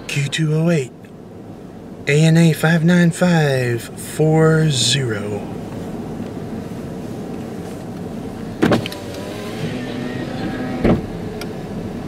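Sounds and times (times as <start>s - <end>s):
car cabin noise: 0.0s - 12.0s.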